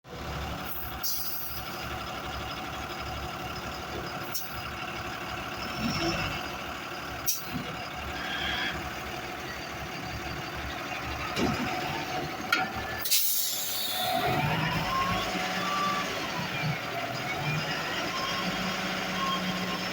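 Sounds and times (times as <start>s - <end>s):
diesel engine running: 0.1s - 19.9s.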